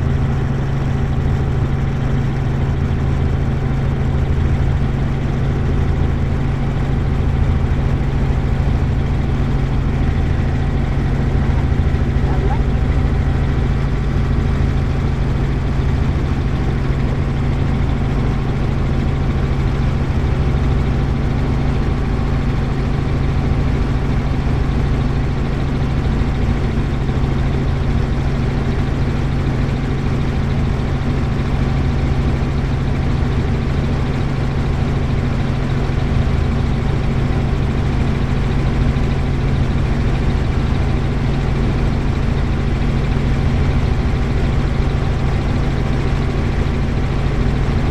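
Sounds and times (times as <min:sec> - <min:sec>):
helicopter engine and rotor: 0:00.0 - 0:47.9.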